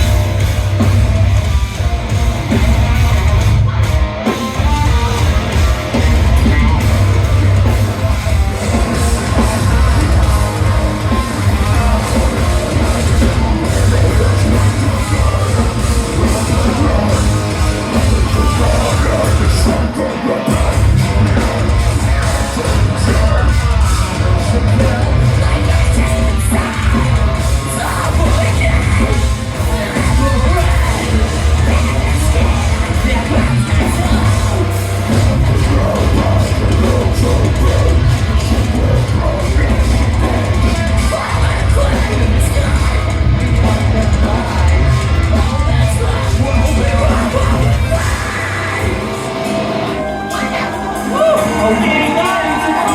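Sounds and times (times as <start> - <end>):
rock band playing live: 0.0 - 52.9
shouted vocals: 5.4 - 52.9.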